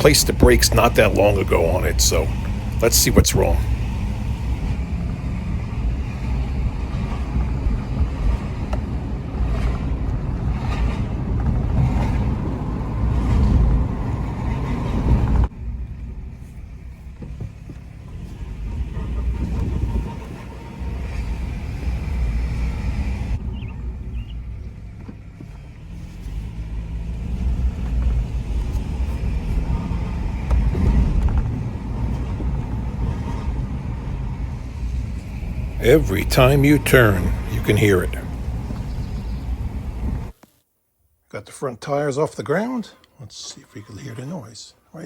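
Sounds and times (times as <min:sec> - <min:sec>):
car driving rumble: 0:00.0 - 0:40.4.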